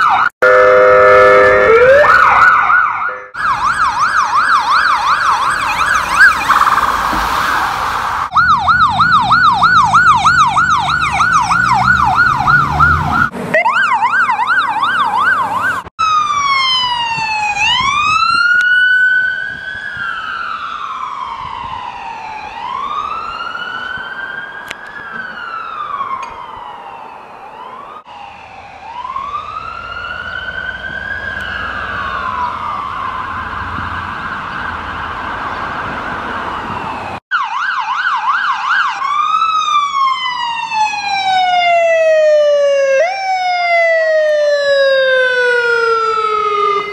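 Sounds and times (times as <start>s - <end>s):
ambulance siren: 0.0s - 46.9s
road noise: 0.0s - 46.9s.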